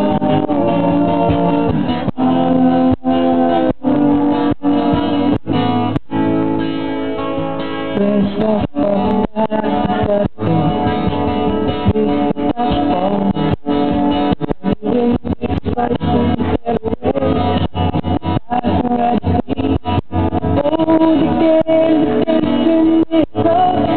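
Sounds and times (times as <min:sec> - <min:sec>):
song with guitar: 0:00.0 - 0:23.9.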